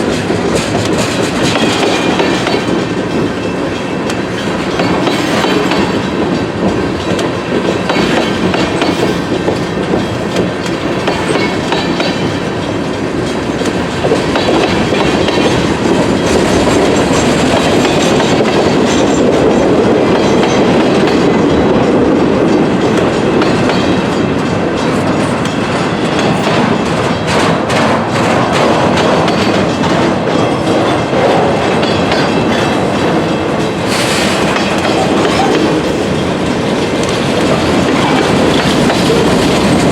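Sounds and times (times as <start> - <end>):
freight train wheels rumbling: 0.0 - 39.9
wheels clicking over rail joints: 0.0 - 39.9.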